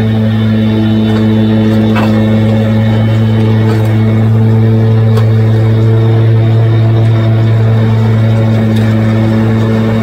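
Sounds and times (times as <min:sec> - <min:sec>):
lawn mower engine running: 0:00.0 - 0:10.0.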